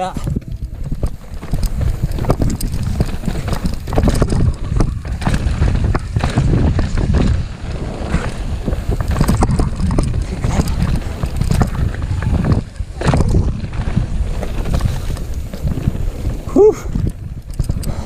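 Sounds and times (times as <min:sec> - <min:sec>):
bike rattling: 0:00.0 - 0:18.0
tyres running over stones: 0:00.0 - 0:18.0
wind buffeting microphone: 0:00.0 - 0:18.0.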